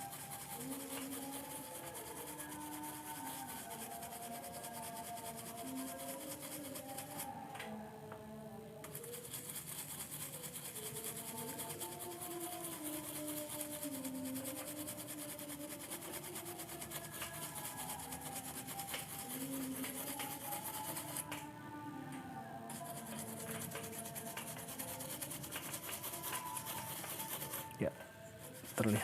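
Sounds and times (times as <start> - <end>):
scratchy scrubbing of circuit board: 0.0 - 7.3, 8.9 - 21.2, 22.7 - 27.8, 28.4 - 29.0.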